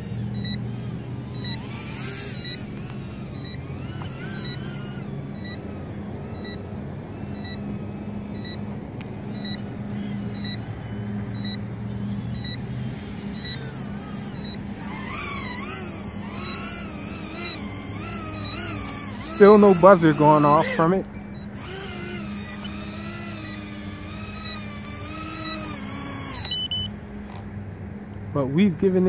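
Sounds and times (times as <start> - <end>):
low steady hum: 0.0 - 29.0
quadcopter motors whining: 0.0 - 29.0.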